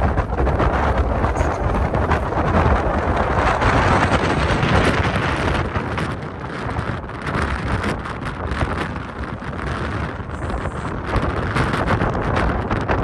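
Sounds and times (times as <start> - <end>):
blizzard wind buffeting microphone: 0.0 - 13.0.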